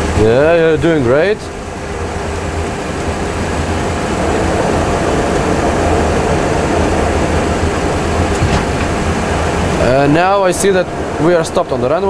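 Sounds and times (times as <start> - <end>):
simulated jet engine and runway rumble: 0.0 - 12.0.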